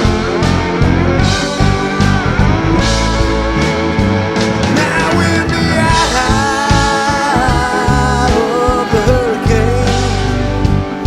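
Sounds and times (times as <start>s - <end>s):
bass guitar: 0.0s - 11.0s
drums: 0.0s - 11.0s.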